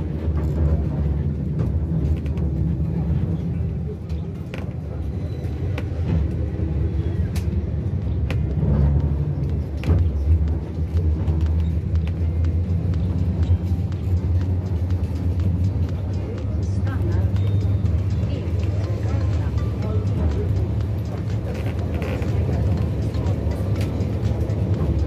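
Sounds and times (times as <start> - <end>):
tram rumbling on rails: 0.0 - 25.0.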